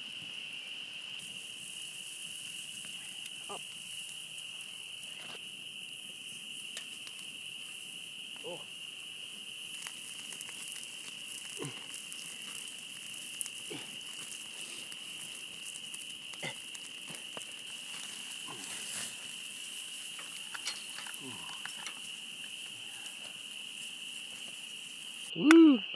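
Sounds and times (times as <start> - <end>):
steaks sizzling on grill: 0.0 - 25.3
campfire crackling: 0.0 - 25.5.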